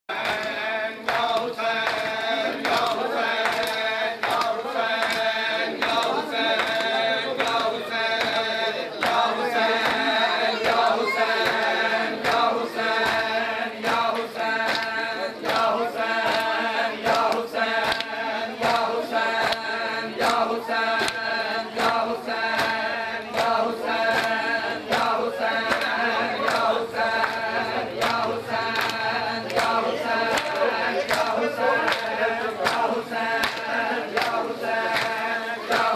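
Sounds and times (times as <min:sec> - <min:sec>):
men chanting in unison: 0:00.1 - 0:35.9.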